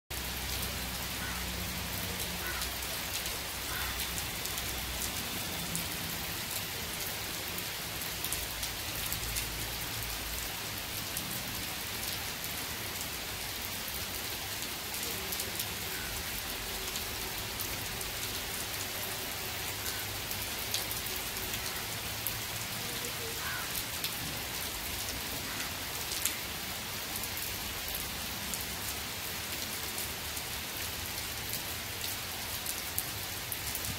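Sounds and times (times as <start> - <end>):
heavy rain on road: 0.1 - 33.9
raindrops ticking on surface: 0.1 - 33.9.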